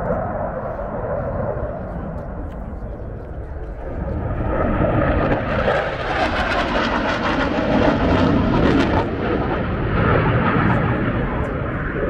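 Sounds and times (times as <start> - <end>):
jet fighter flying past: 0.0 - 12.0.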